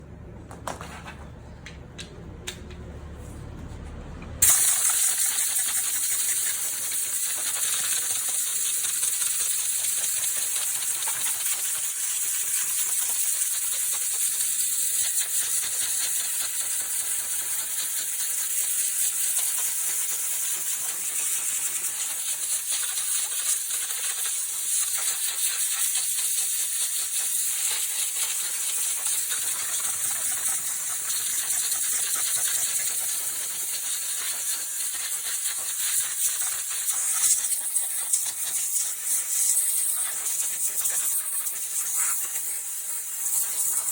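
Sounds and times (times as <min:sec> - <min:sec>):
pressure washer spraying water: 0:04.4 - 0:43.9.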